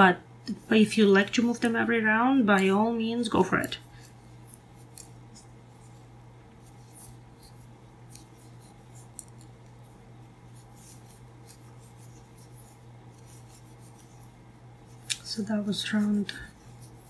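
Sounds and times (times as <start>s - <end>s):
low steady hum: 0.0s - 17.0s
yarn rustling over crochet hook: 0.5s - 17.0s.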